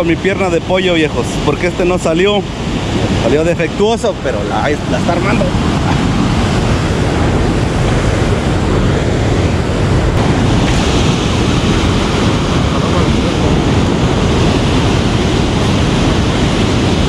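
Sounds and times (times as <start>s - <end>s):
rushing river water: 0.0s - 17.0s
wind buffeting microphone: 0.0s - 17.0s.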